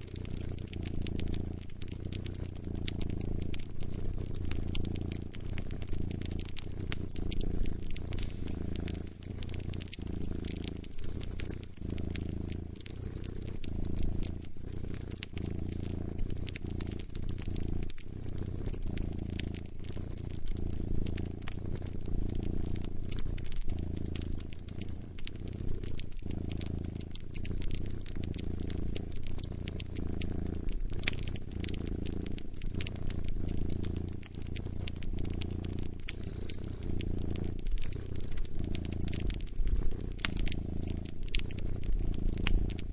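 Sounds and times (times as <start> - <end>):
cat purring: 0.0 - 42.9
wood fire crackling: 0.0 - 42.9.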